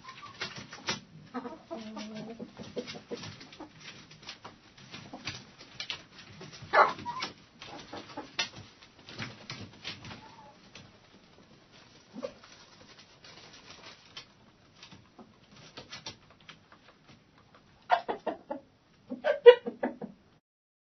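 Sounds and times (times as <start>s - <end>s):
hens clucking: 0.0s - 11.0s, 11.8s - 16.1s, 17.6s - 20.2s.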